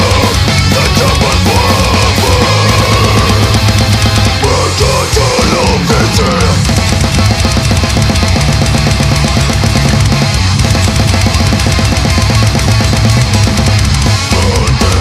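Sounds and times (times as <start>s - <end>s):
distorted guitar and bass riffing: 0.0s - 15.0s
rapid dense drumming: 0.0s - 15.0s.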